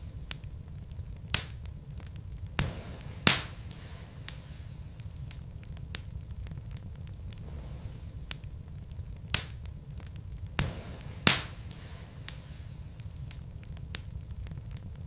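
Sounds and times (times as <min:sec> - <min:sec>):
fire rumbling in a fireplace: 0:00.0 - 0:15.0
wood crackling: 0:00.0 - 0:15.0
logs popping: 0:00.1 - 0:15.0.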